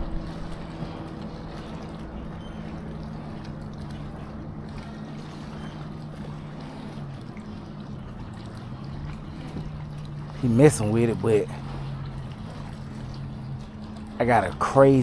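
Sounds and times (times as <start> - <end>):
motorboat engine drone: 0.0 - 15.0.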